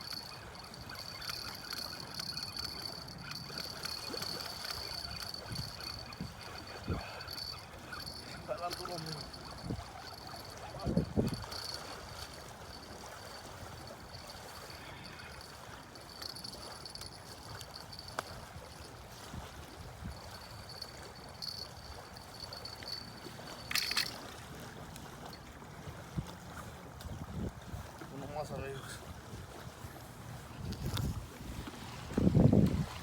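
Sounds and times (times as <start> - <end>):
water lapping and trickling: 0.0 - 33.0.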